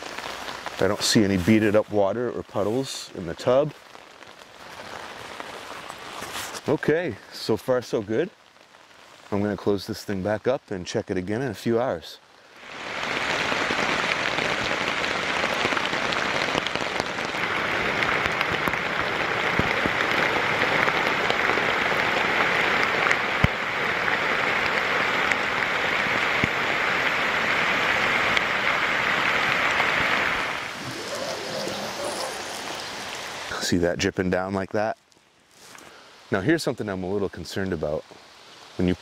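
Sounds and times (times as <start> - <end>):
heavy rain on tent fly: 0.0 - 39.0.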